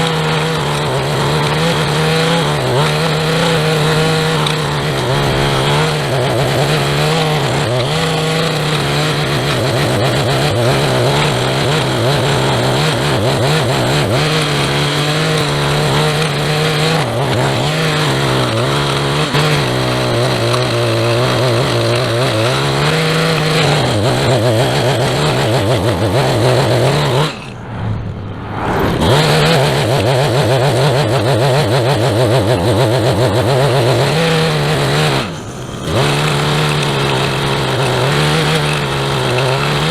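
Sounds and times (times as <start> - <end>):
small gasoline engine revving: 0.0 - 39.9.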